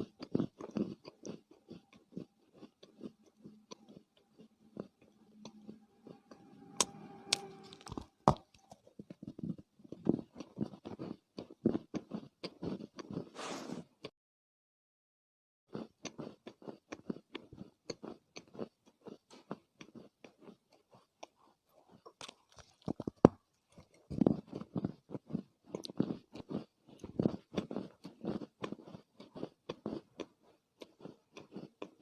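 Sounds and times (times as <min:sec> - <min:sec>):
chewing dry crunches: 0:00.0 - 0:06.4, 0:07.8 - 0:13.5, 0:15.7 - 0:32.0.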